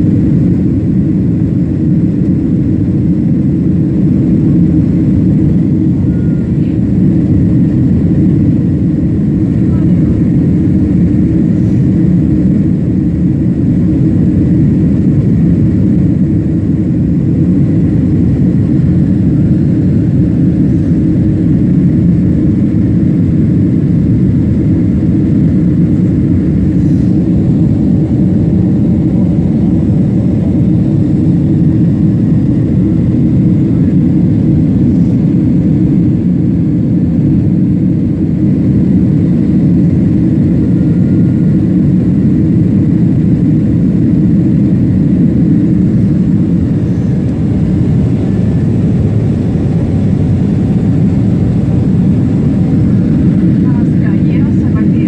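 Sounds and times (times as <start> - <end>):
jet engine cabin rumble: 0.0 - 55.0.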